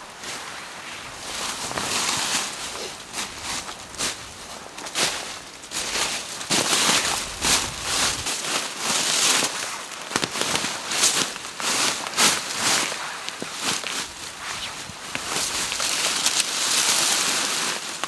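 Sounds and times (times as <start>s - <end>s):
dry wood crackling and snapping: 1.7s - 18.0s.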